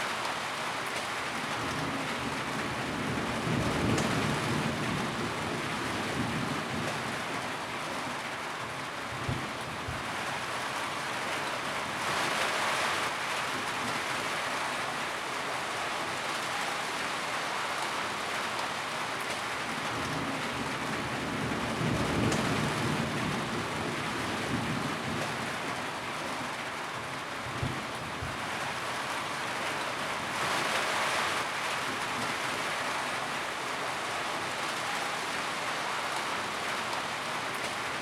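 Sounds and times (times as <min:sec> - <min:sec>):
rain drumming on tin roof: 0:00.0 - 0:38.0.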